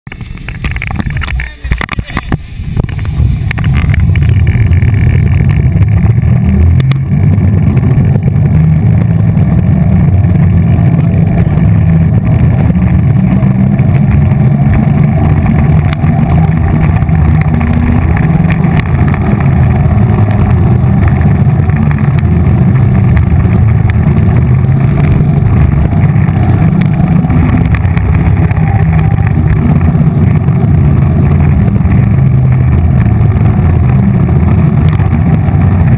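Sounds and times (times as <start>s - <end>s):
skate wheels rolling on floor: 0.1s - 35.9s.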